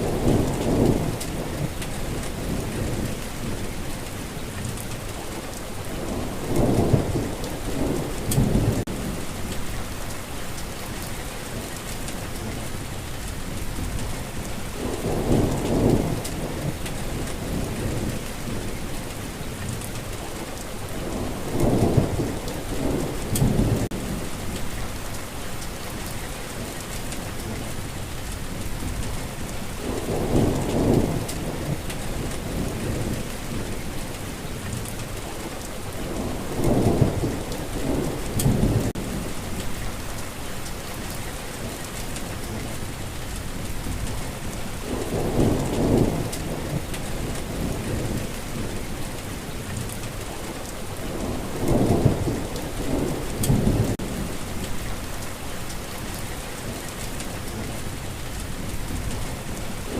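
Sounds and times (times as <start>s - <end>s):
low thunder rumbling: 0.0s - 59.9s
steady rain falling: 0.0s - 59.9s.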